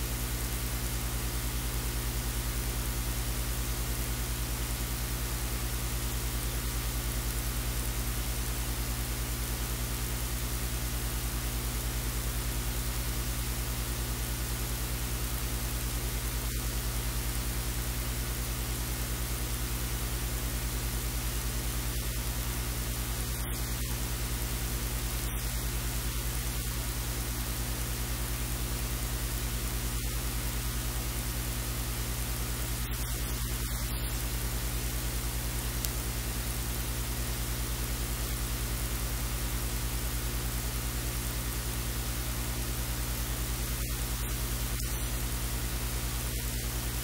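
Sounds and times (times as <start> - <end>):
low electrical hum: 0.0 - 47.0
steady hiss: 0.0 - 47.0.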